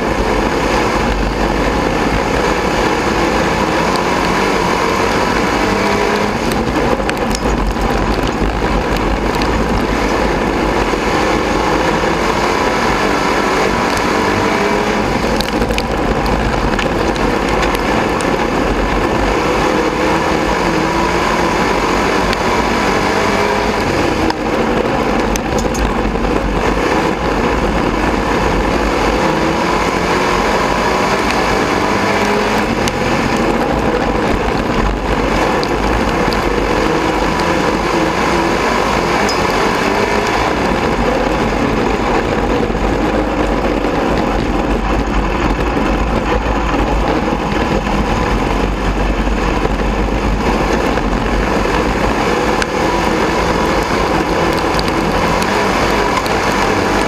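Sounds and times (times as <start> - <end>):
other race car engines: 0.0 - 57.0
race car engine drone: 0.0 - 57.0.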